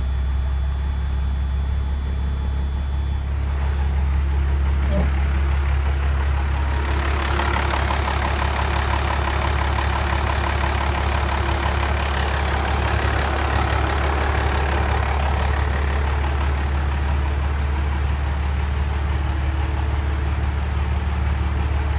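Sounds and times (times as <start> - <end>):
diesel engine idling: 0.0 - 21.9
diesel ticking: 0.0 - 21.9.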